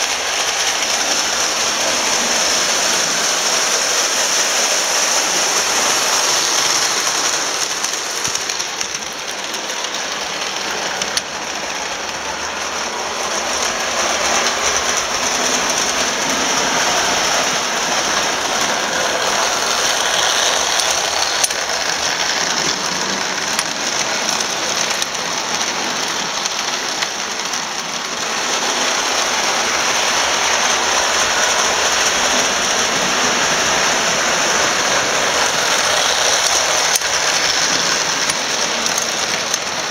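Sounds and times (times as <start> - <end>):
toy train motors whirring: 0.0 - 39.9
wheels clattering over rails: 0.0 - 39.9.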